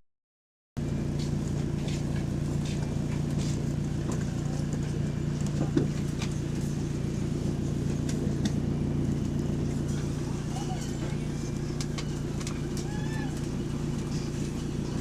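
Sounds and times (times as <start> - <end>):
bus diesel engine drone: 0.8 - 15.0.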